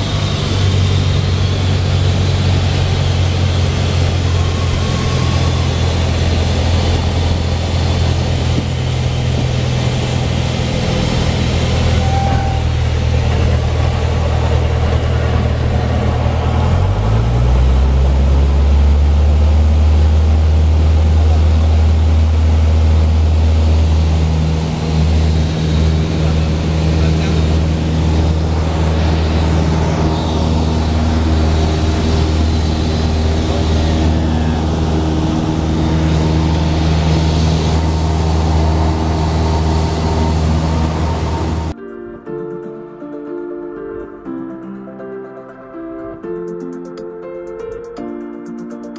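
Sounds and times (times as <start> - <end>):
aircraft engine droning: 0.0 - 41.8.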